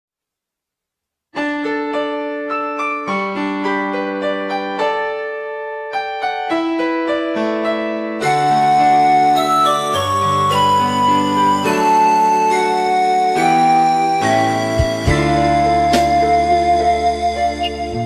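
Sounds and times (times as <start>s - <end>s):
keyboard playing slow ballad: 1.4s - 18.0s.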